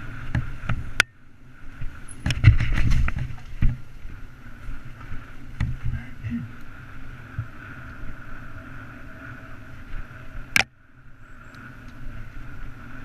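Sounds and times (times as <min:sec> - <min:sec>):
bike rattling: 0:00.0 - 0:13.0
bike tyres rumbling on dirt: 0:00.0 - 0:13.0.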